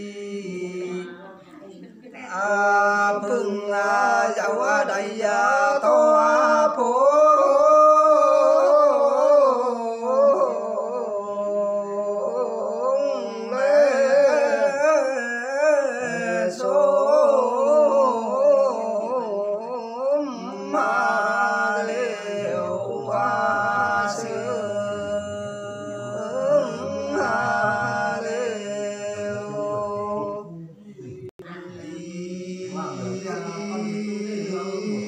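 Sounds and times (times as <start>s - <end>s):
man singing folk chant: 0.0s - 1.2s, 2.2s - 35.0s.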